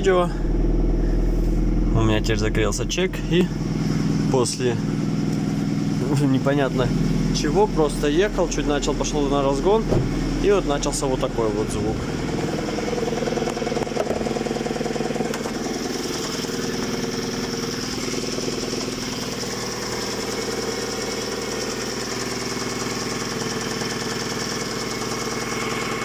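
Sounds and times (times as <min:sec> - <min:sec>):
car engine idling with knock: 0:00.3 - 0:26.0.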